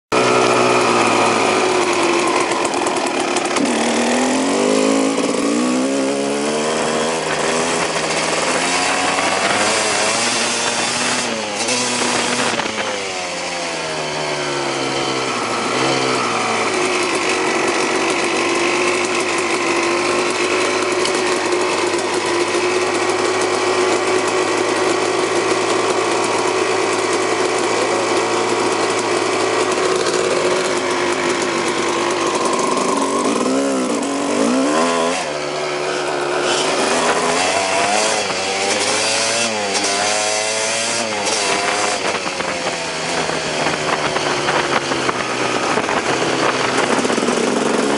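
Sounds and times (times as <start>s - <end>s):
dirt bike engine revving: 0.1s - 47.9s.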